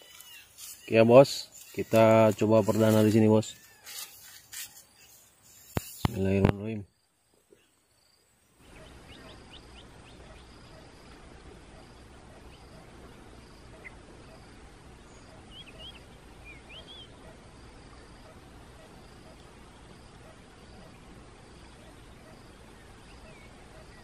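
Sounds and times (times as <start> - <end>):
faint bird chirps: 0.0 - 24.0
steady background hiss: 0.0 - 24.0.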